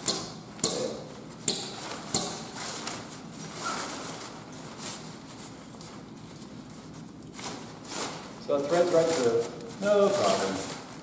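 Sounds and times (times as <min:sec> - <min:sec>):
nylon tent cover rustling: 0:01.8 - 0:11.0.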